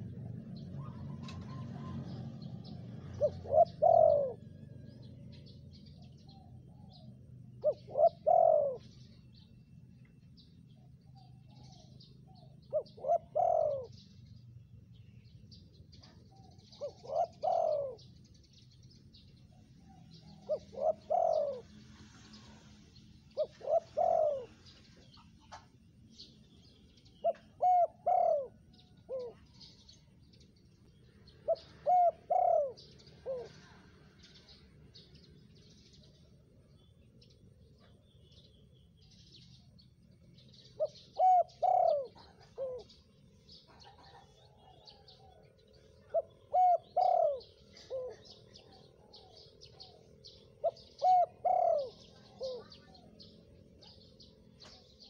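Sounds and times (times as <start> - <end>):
dove cooing: 0.0 - 9.5, 10.7 - 14.5, 15.9 - 18.6, 19.2 - 30.2, 31.0 - 38.0, 40.4 - 55.0
small birds chirping: 0.0 - 55.0.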